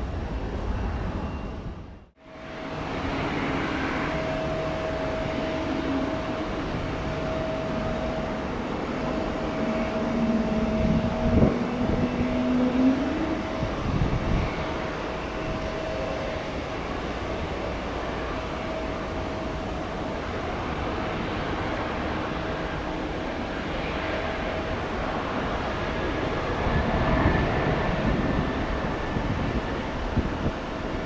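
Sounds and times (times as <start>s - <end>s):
jet engines whining and rumbling: 0.0s - 31.0s.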